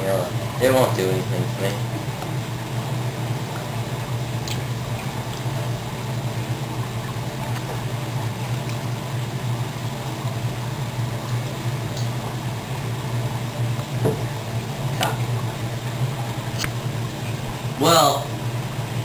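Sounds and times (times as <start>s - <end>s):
electrical hum and hiss: 0.0s - 19.0s.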